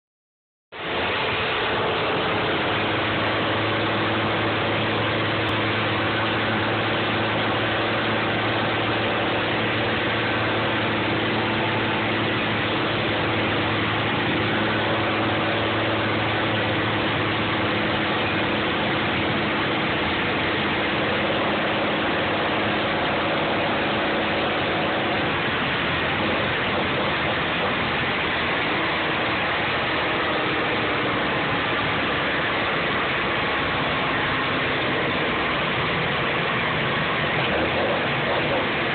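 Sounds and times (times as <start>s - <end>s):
truck engine running steadily: 0.7s - 38.9s.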